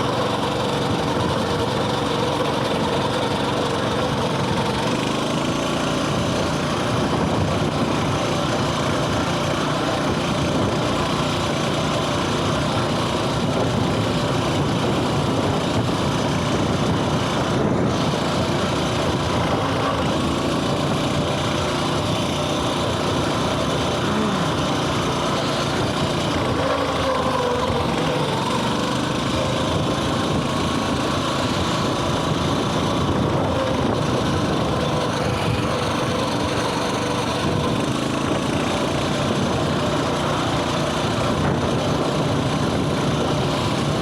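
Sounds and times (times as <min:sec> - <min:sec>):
small engine running: 0:00.0 - 0:44.0.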